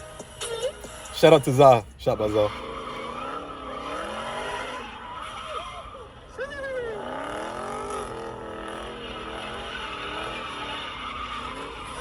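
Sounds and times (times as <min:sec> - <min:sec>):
car engine revving: 0:01.2 - 0:12.0.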